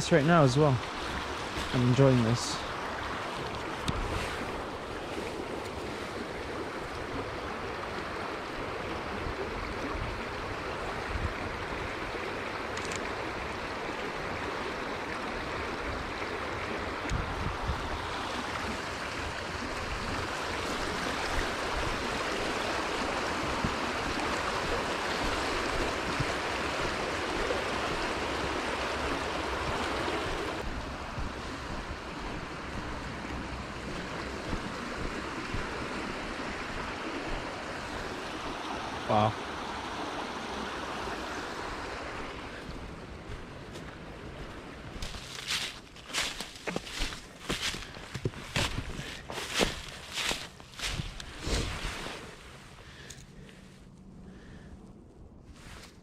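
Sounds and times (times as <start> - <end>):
stream water rushing: 0.0 - 53.3.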